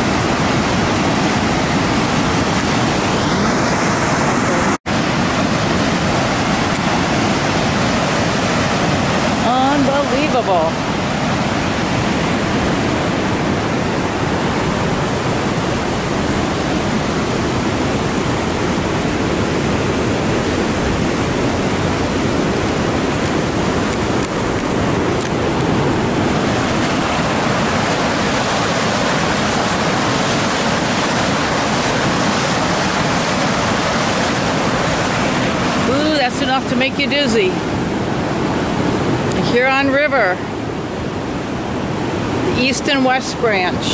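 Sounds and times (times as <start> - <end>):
roaring river rapids: 0.0 - 43.9.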